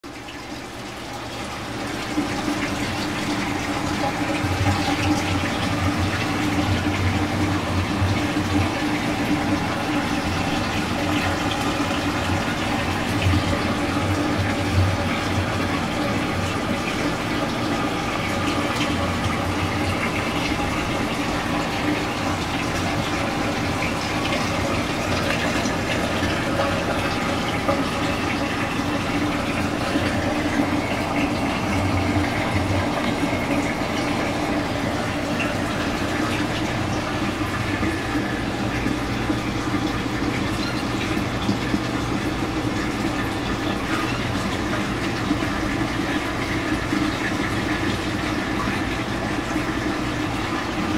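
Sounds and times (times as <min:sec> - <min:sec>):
low pump hum: 0:00.0 - 0:50.9
rushing water: 0:00.0 - 0:50.9.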